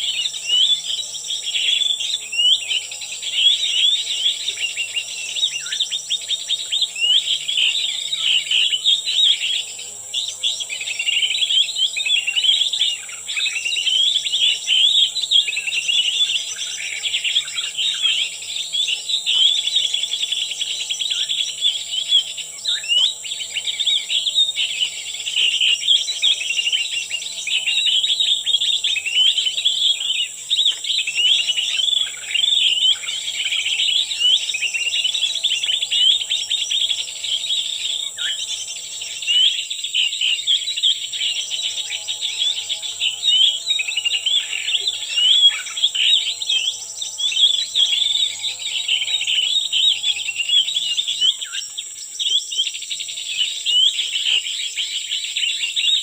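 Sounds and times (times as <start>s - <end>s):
high-pitched insect drone: 0.0s - 56.0s
small birds twittering: 0.0s - 56.0s.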